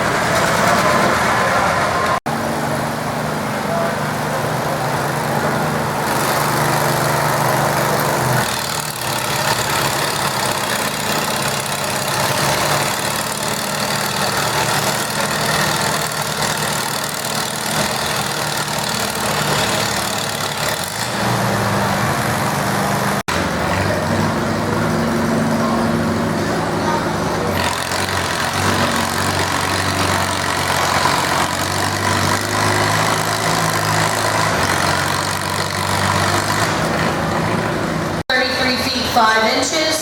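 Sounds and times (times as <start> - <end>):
tractor engine under load: 0.0 - 39.9.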